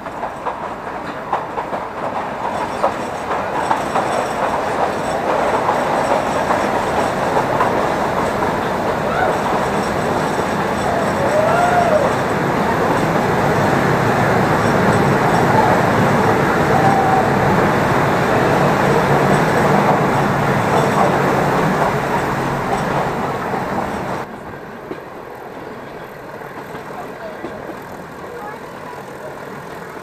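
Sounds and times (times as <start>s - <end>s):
toy train rumbling in tunnel: 0.0s - 30.0s.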